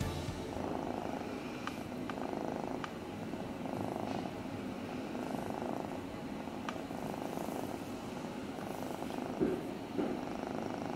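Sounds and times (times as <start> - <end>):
kitten purring: 0.3 - 10.9.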